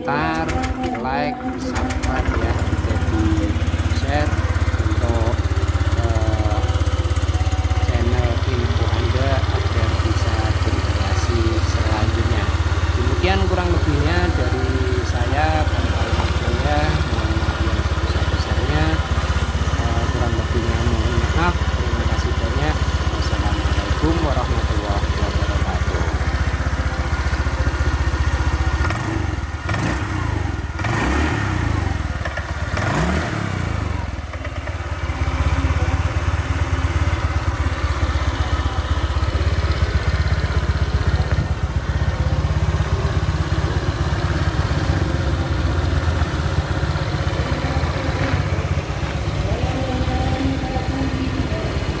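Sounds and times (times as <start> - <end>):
scooter engine revving and idling: 0.0 - 52.0.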